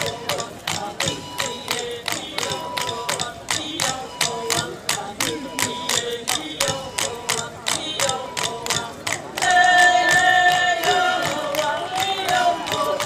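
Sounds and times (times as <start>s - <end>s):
chanted singing: 0.0s - 13.0s.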